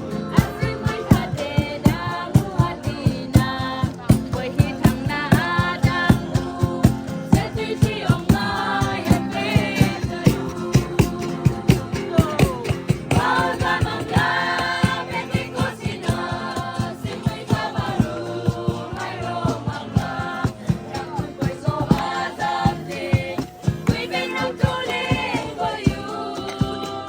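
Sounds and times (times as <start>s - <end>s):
gospel song with voices singing: 0.0s - 27.0s.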